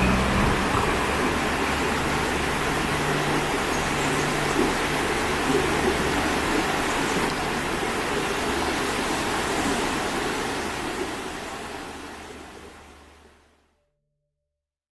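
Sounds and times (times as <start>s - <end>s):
stream running over rocks: 0.0s - 13.7s.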